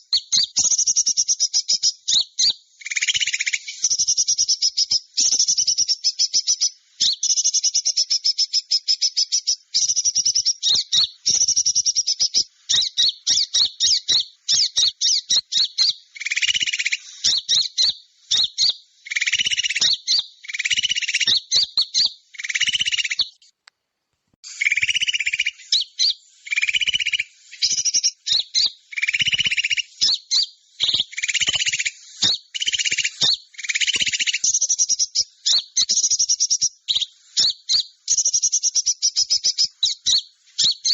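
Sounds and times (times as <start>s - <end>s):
harsh chirp bursts: 0.0s - 23.5s, 24.4s - 40.9s
high-pitched bird chirping and trilling: 0.0s - 23.5s, 24.4s - 40.9s.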